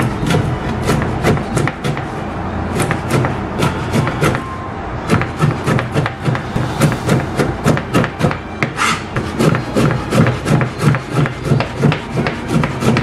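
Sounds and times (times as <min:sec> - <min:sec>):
knife chopping on cutting board: 0:00.0 - 0:02.1, 0:02.7 - 0:04.4, 0:05.0 - 0:13.0.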